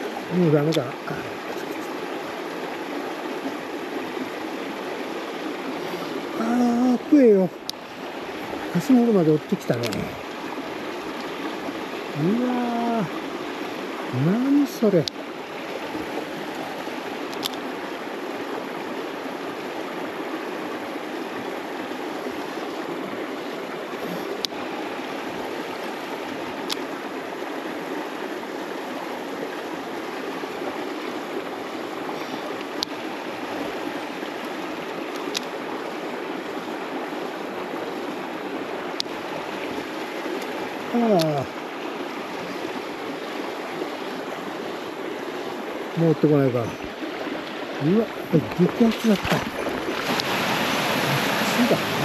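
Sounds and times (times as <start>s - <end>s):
mountain stream running: 0.0s - 52.0s.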